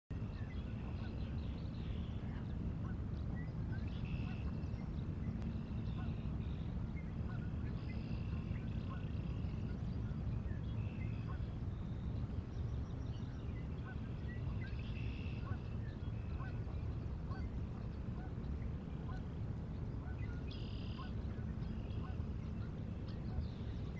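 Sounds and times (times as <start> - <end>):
steady low rumble: 0.1 - 23.9.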